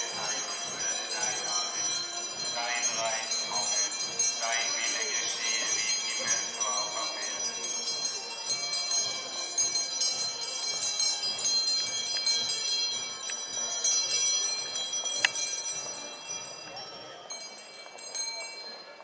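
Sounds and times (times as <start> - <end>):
handbells jingling: 0.0 - 19.0.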